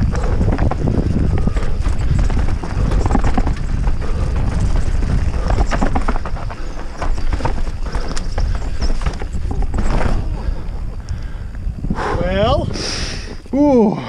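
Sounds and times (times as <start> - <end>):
mountain bike clattering over rocks: 0.0 - 11.6
wind rumble on microphone: 0.0 - 14.0.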